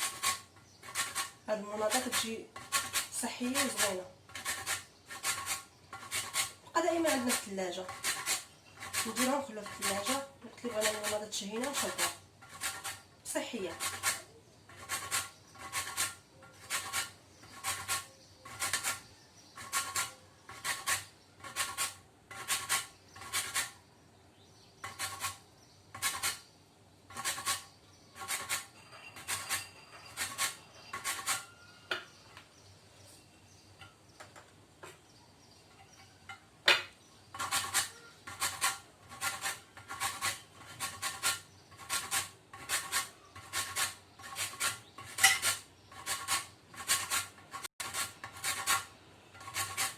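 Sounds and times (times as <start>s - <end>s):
lemon rasping on a grater: 0.0s - 23.8s, 24.8s - 26.4s, 27.1s - 31.7s, 37.3s - 49.9s.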